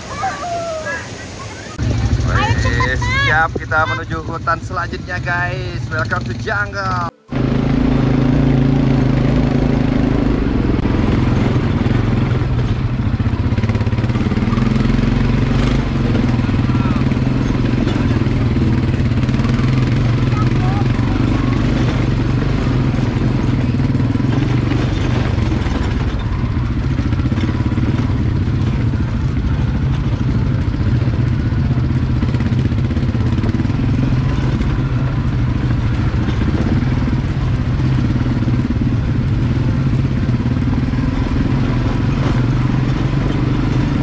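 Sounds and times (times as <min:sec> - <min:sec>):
atv engine droning: 0:00.0 - 0:44.0.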